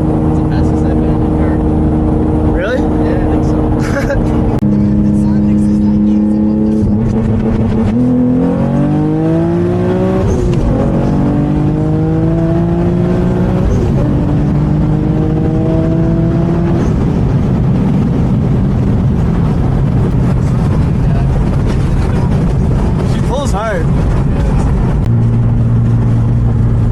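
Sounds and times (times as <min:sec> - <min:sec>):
car engine accelerating hard: 0:00.0 - 0:26.9
road and wind noise: 0:00.0 - 0:26.9.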